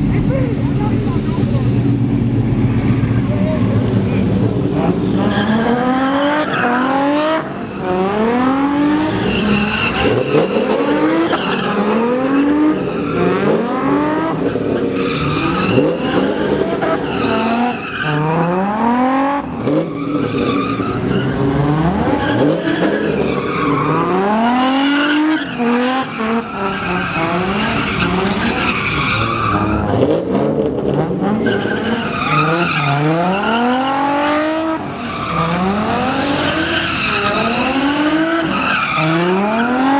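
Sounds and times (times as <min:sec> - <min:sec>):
tires squealing: 0:00.0 - 0:39.9
truck engine revving: 0:00.0 - 0:39.9.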